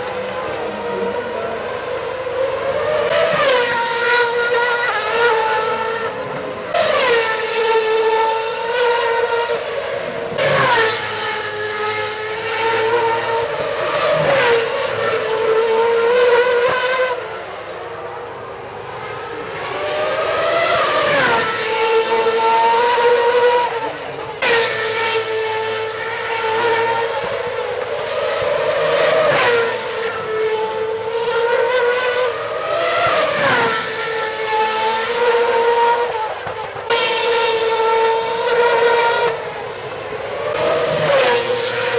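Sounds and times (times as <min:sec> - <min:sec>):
racing car engines at high revs: 0:00.0 - 0:41.9.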